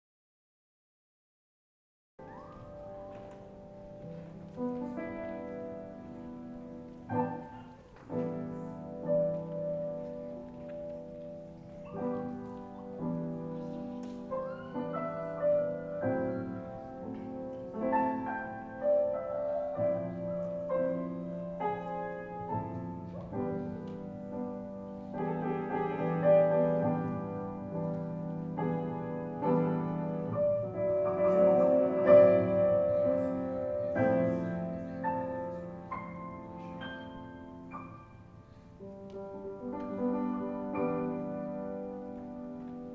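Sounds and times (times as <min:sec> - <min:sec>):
piano: 0:02.2 - 0:42.9.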